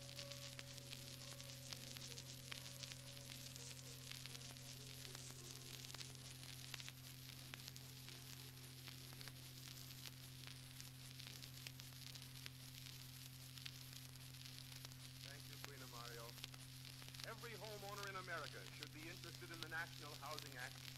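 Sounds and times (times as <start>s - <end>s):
crackle of fine clicks: 0.0s - 20.9s
steady low hum: 0.0s - 20.9s.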